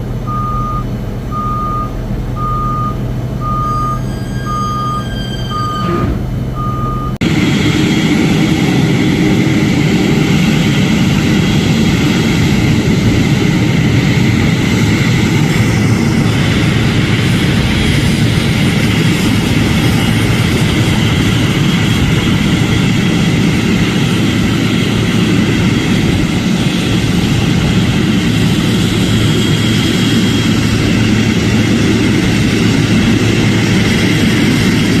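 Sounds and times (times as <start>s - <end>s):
held engine whine: 0.0s - 35.0s
jet engines running: 4.8s - 35.0s.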